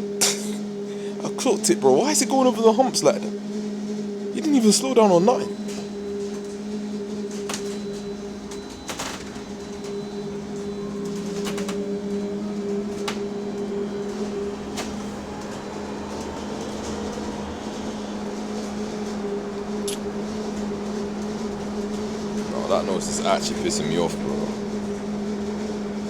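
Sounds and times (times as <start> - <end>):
electric bus drone: 0.0 - 26.0
faint whine rising in pitch: 0.0 - 26.0.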